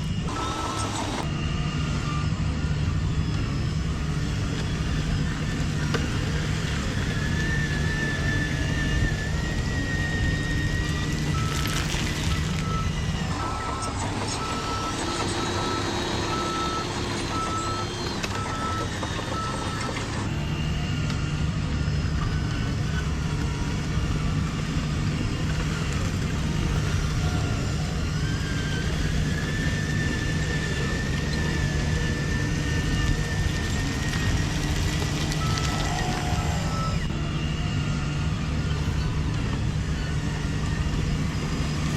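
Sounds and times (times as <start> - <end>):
high motor whine: 0.0 - 41.9
reversing beeper: 0.0 - 41.9
toy truck motor running: 0.0 - 41.9.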